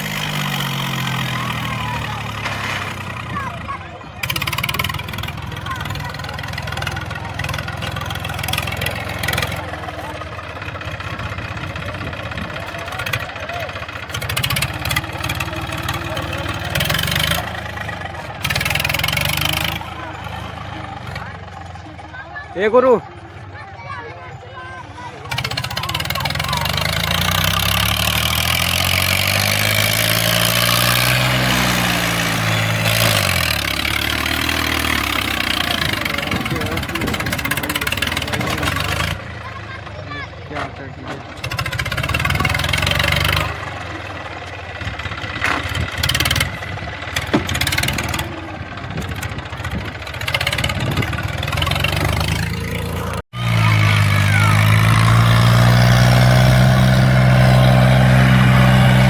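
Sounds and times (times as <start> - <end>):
people's voices: 0.0 - 59.0
tractor diesel engine running: 0.0 - 59.0.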